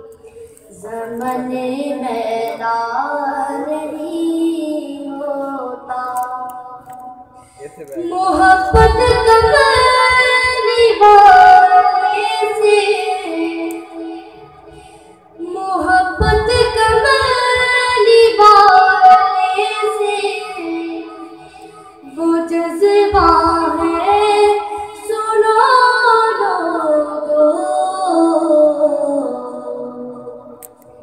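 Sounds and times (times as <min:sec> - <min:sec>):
child singing: 0:00.0 - 0:06.8, 0:07.8 - 0:14.6, 0:15.4 - 0:30.4.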